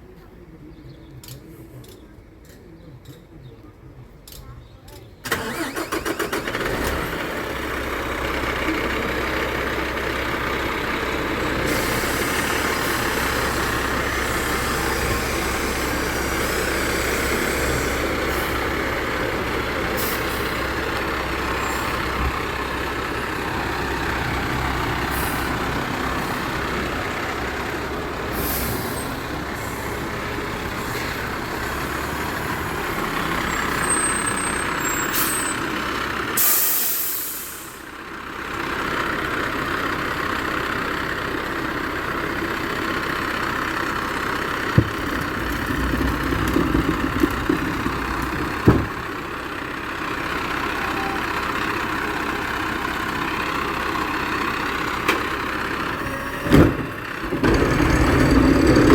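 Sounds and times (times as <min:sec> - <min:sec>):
diesel engine running: 0:05.2 - 0:58.9.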